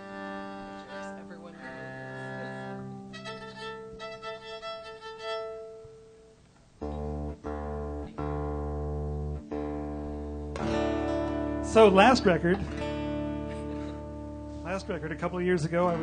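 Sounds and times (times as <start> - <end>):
fiddle held notes: 0.0 - 16.0
guitar chord strums: 0.0 - 16.0.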